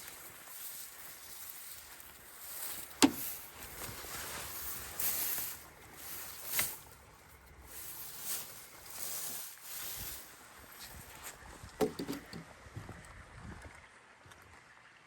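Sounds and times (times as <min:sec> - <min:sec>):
rustling in vegetation: 0:00.0 - 0:12.5.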